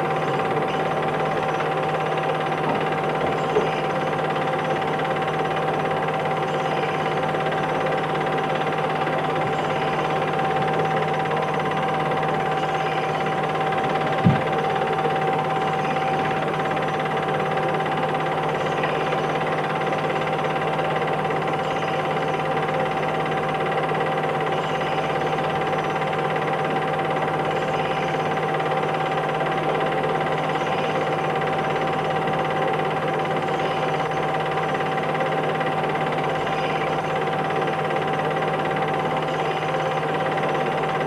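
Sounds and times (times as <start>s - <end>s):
projector hum and hiss: 0.0s - 36.3s.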